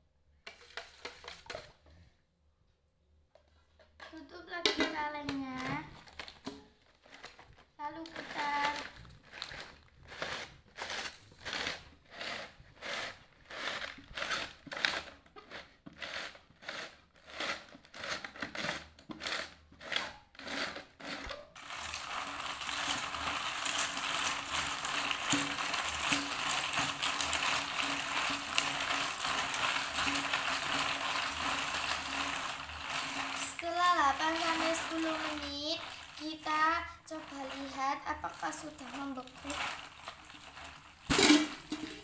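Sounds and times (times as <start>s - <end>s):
ice and salt crunching in bucket: 7.0s - 42.0s.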